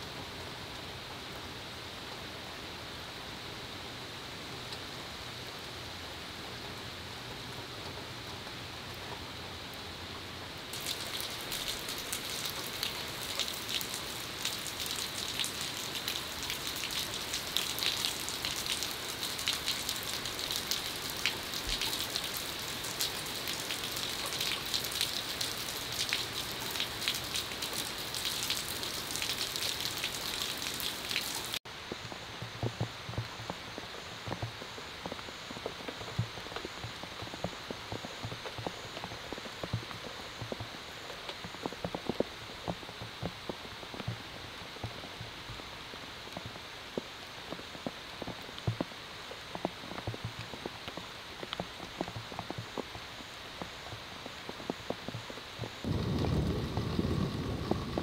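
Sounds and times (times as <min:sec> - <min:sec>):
heavy rain on concrete: 0:00.0 - 0:58.0.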